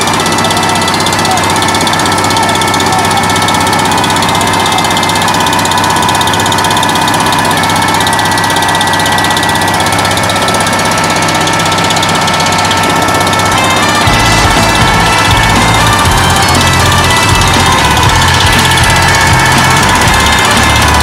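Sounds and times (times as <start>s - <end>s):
boat engine running loudly: 0.0s - 21.0s.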